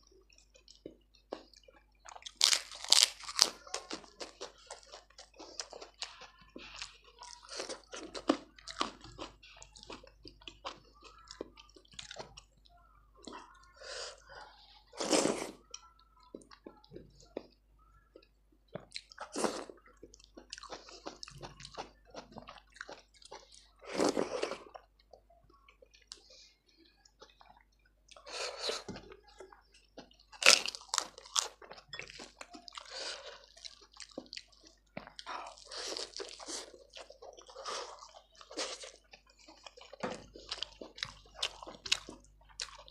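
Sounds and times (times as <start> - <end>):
chewing wet food: 0.0 - 42.9.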